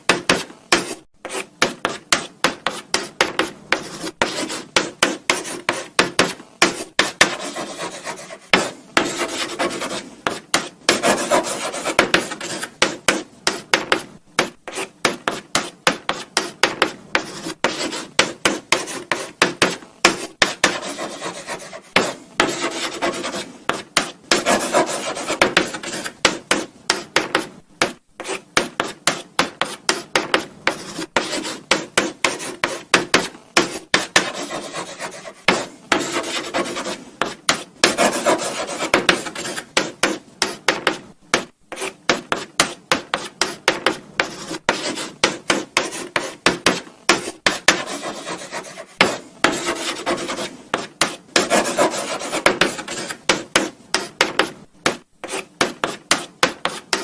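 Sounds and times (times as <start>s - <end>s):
chalk scratching on blackboard: 0.1s - 57.0s.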